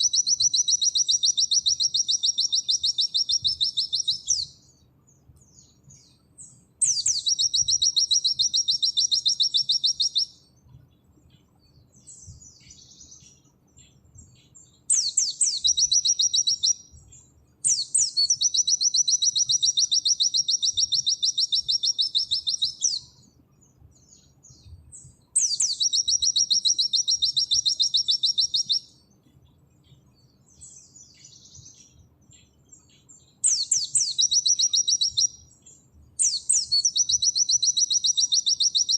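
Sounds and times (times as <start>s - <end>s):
bird singing fast high trills: 0.0s - 4.8s, 5.5s - 10.5s, 12.0s - 23.4s, 24.0s - 29.1s, 30.5s - 38.9s
soft bird chirps: 0.0s - 38.9s.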